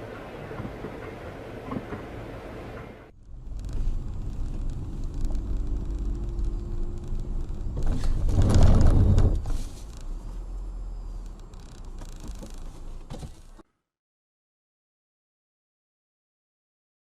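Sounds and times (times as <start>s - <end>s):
car road and engine noise: 0.0s - 13.6s.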